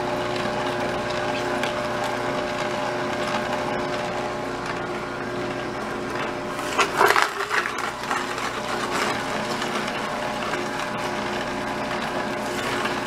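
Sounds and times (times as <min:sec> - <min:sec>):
juicer crunching fruit: 0:00.0 - 0:13.0
juicer motor humming: 0:00.0 - 0:13.0.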